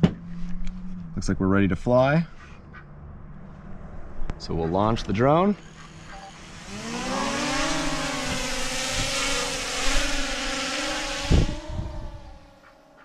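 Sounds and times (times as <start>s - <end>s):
drone propellers whining: 0.0s - 1.3s, 3.3s - 13.0s.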